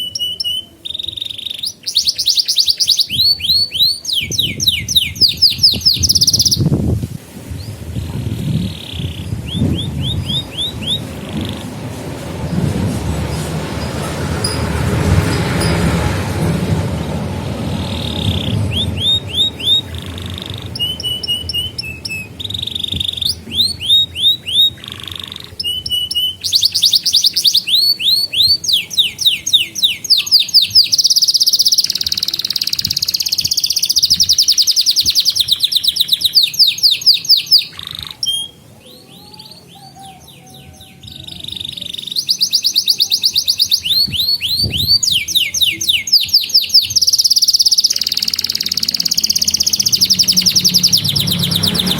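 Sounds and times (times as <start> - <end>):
canary singing trills: 0.0 - 6.8, 7.5 - 51.9.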